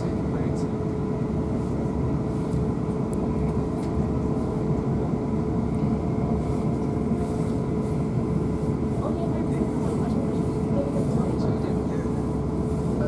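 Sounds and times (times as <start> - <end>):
constant whine: 0.0 - 13.0
train wheels rumbling on rails: 0.0 - 13.0.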